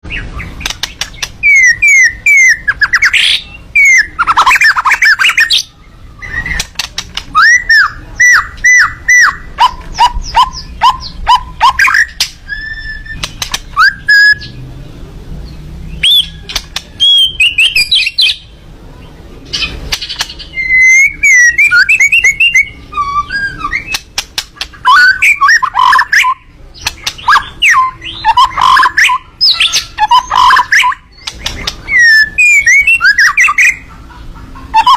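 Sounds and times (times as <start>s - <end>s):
songbird chirping and whistling: 0.0s - 14.7s, 15.4s - 34.9s.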